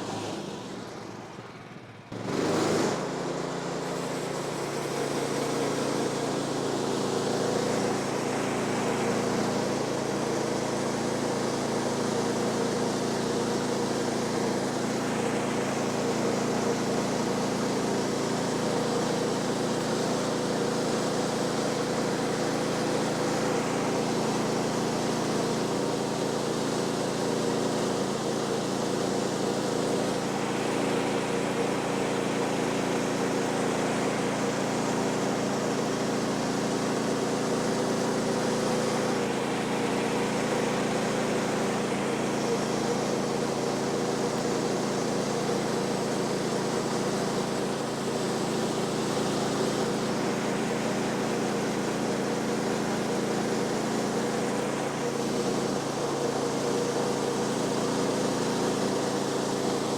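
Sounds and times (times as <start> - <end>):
small gasoline engine running: 0.0 - 59.9.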